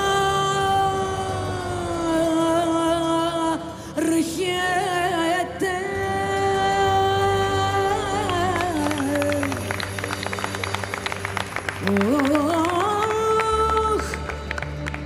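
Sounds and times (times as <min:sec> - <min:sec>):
woman singing: 0:00.0 - 0:10.1, 0:11.8 - 0:14.7.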